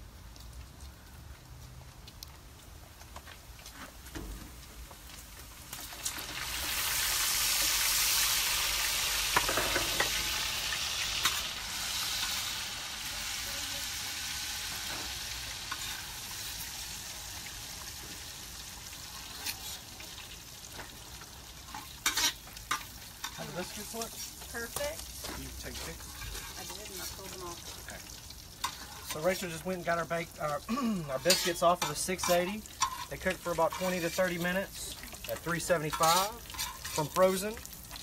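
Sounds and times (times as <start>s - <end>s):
food sizzling in a pan: 4.9s - 38.0s.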